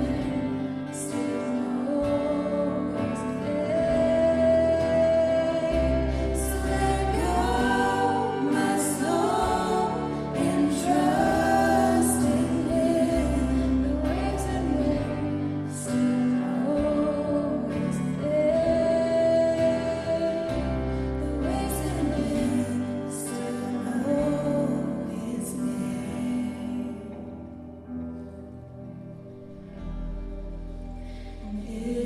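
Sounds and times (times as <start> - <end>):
worship band playing: 0.0 - 27.2
people singing: 0.0 - 27.4.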